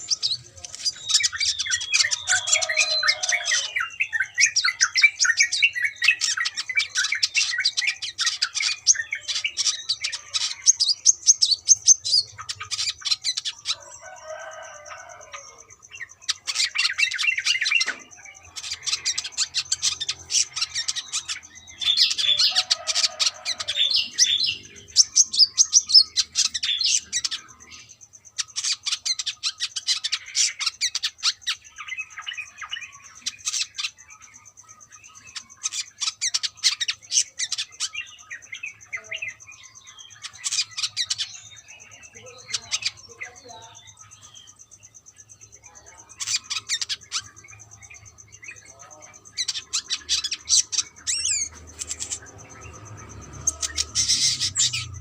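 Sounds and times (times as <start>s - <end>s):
bird twittering: 0.0s - 55.0s.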